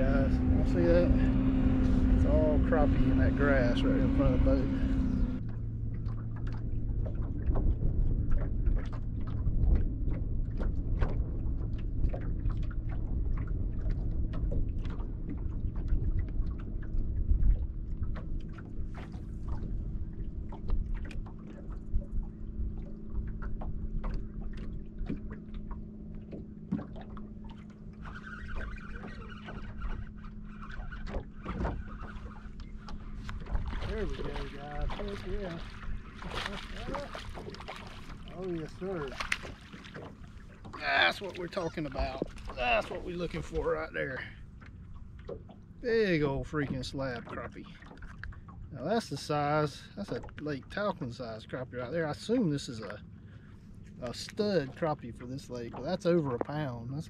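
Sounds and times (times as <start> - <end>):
low rumble: 0.0 - 28.0, 29.3 - 47.2
water lapping against boat hull: 0.0 - 57.0
small ticks and splashes: 2.2 - 53.0.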